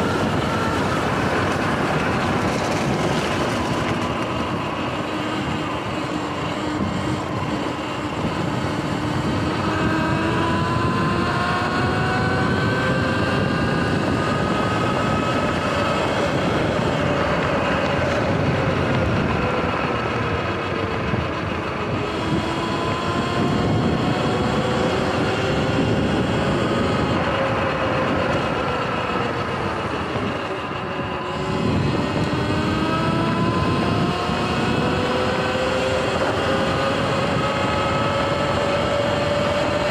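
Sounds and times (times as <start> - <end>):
electric dirt bike whine: 0.0 - 39.9
wind: 0.0 - 39.9.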